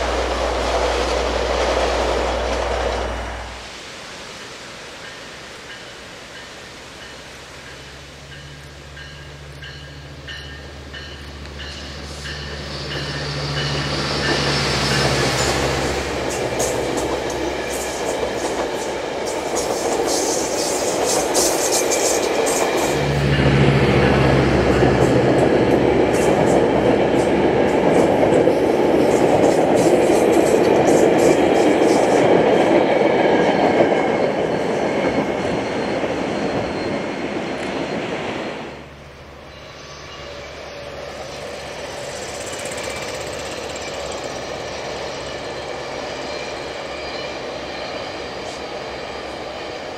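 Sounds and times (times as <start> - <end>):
diesel locomotive engine drone: 0.0 - 49.9
train rumble: 0.0 - 49.9.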